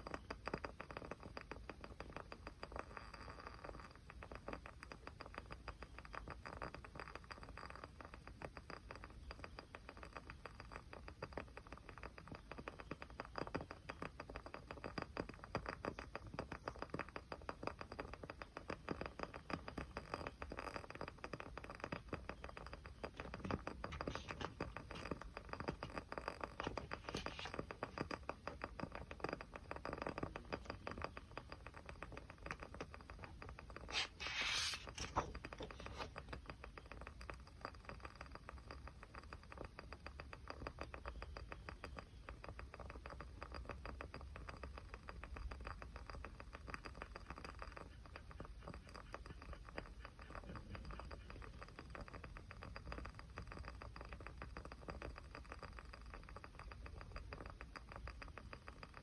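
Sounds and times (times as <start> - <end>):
small fire crackling: 0.0 - 59.0.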